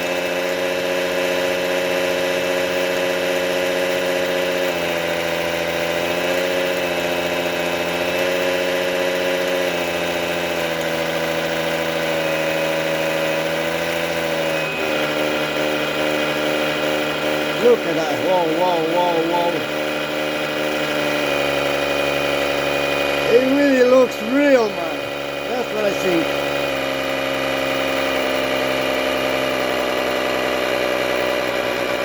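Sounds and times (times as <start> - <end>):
simulated diesel engine from speaker: 6.0 - 32.0.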